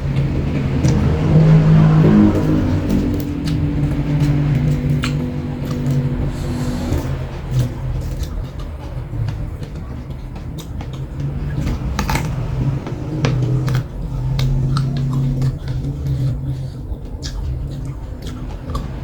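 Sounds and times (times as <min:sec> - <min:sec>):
low hum: 0:00.0 - 0:19.0
crunching while eating: 0:03.1 - 0:19.0.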